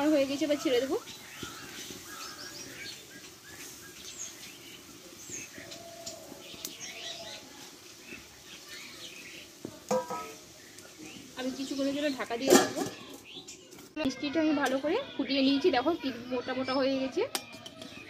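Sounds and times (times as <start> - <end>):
small birds chirping: 0.0 - 14.3, 15.1 - 18.0.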